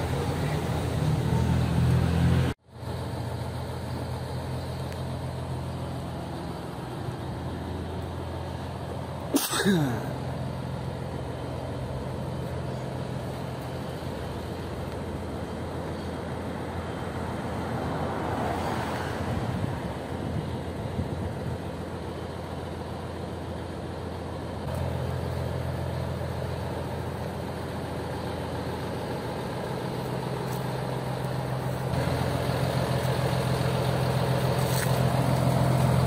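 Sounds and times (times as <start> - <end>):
diesel engine idling hum: 0.0 - 36.0.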